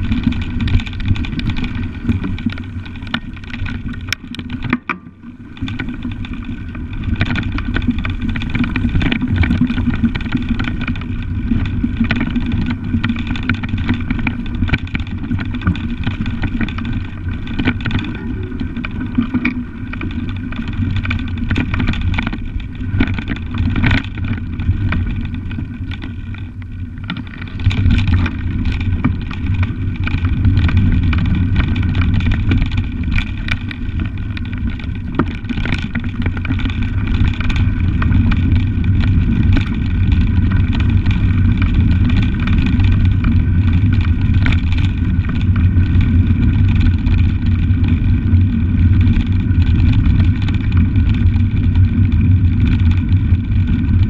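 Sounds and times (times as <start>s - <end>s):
bicycle knocking and rattling: 0.0s - 54.0s
bicycle tyres rumbling on dirt: 0.0s - 54.0s.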